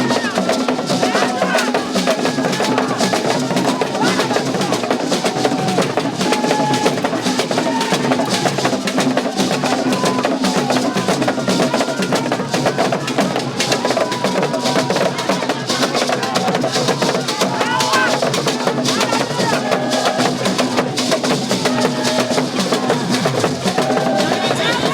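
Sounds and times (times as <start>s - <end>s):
drum and percussion music: 0.0s - 24.9s.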